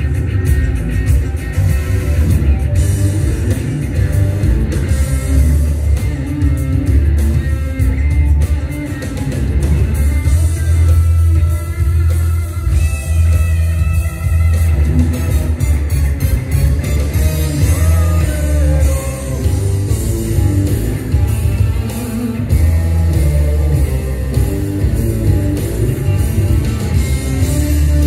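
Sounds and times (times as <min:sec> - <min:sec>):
electric guitar: 0:00.0 - 0:28.0
rock backing with bass and drums: 0:00.0 - 0:28.0.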